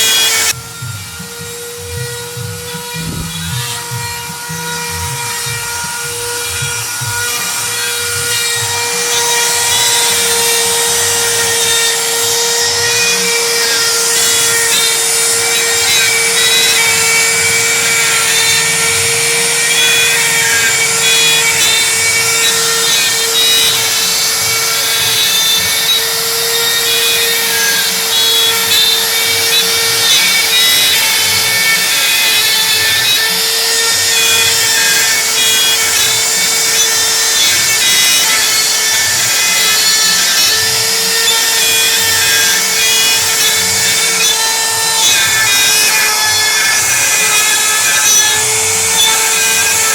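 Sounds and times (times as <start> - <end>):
rasping cutting noise: 0.0 - 49.9
router spindle whining: 0.0 - 49.9.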